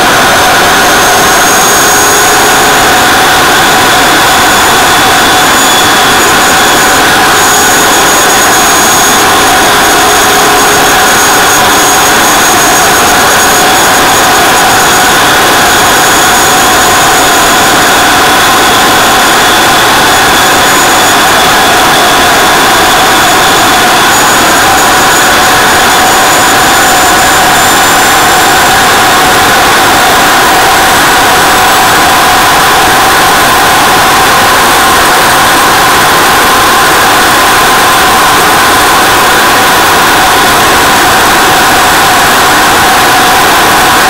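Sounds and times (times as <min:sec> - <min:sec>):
jet engine whine: 0:00.0 - 0:44.0.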